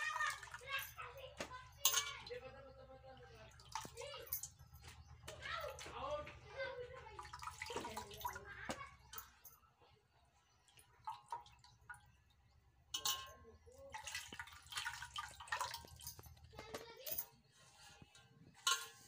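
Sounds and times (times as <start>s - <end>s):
water splashing and dripping: 0.0s - 9.4s, 10.6s - 17.2s.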